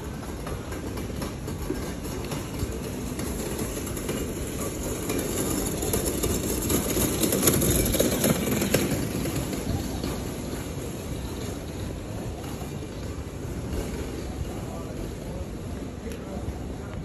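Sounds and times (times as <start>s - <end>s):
moving vehicle rumble and rattle: 0.0s - 17.0s.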